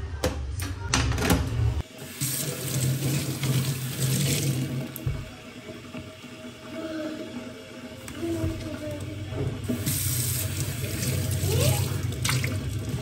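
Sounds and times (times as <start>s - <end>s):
tap water running into sink: 1.8s - 13.0s.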